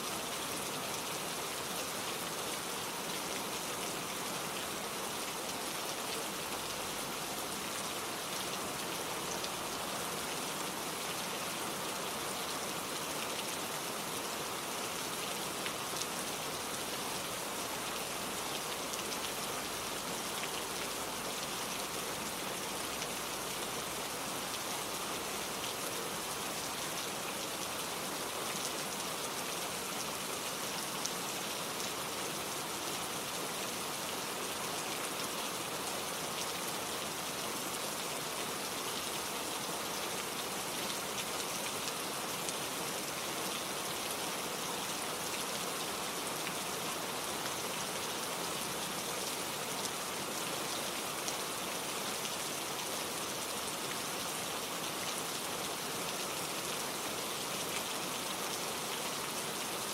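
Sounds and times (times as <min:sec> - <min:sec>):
gentle rain hiss: 0:00.0 - 0:59.9.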